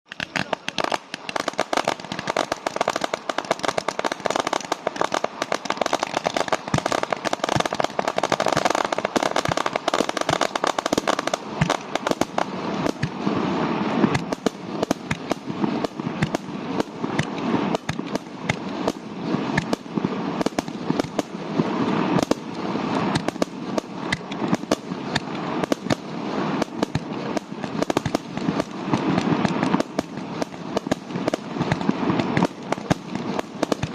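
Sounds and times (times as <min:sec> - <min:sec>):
fireworks barrage: 0:00.0 - 0:33.9.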